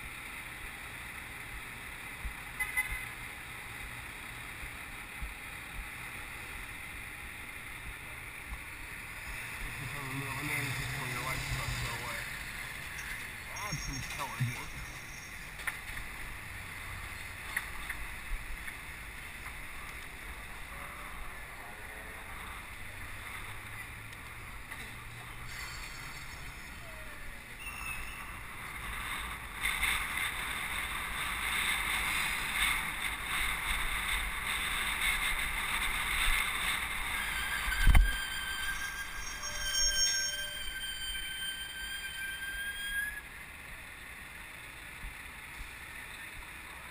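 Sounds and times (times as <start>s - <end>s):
road rumble: 0.0s - 46.9s.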